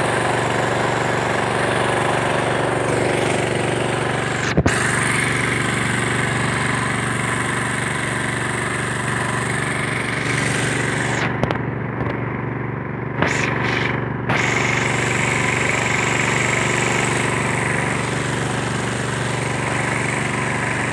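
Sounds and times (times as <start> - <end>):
sprayer engine running: 0.0 - 20.9.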